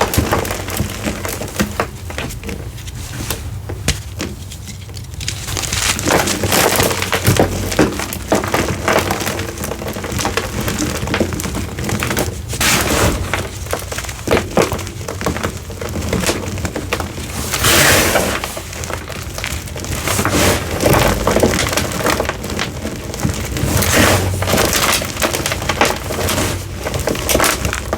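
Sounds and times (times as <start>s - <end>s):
chalk block crushed and crumbled: 0.0s - 27.9s.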